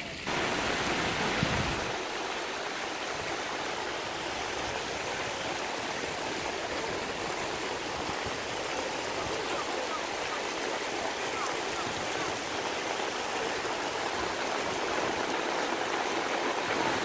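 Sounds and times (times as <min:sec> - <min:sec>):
rain on pool and paving: 0:00.0 - 0:17.0.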